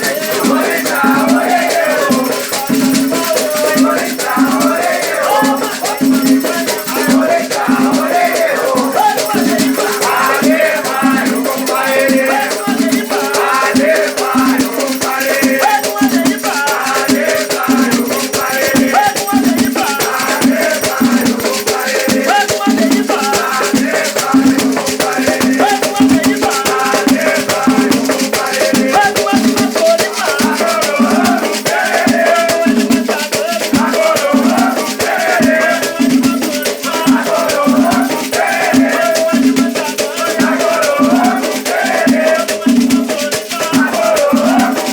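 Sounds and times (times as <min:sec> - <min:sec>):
rattles shaken fast: 0:00.0 - 0:44.9
voices singing: 0:00.0 - 0:44.9.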